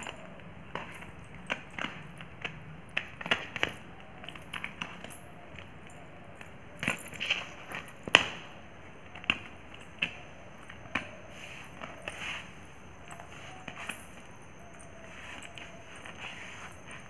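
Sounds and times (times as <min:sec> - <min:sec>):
bell anklets jingling: 0:00.0 - 0:17.0.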